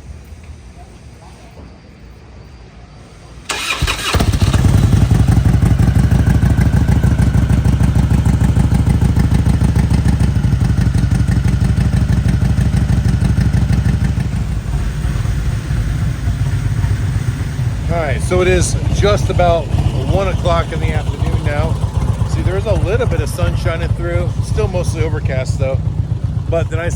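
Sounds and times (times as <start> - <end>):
motorcycle starter whirr: 3.1 - 26.9
motorcycle engine idling: 3.3 - 26.9.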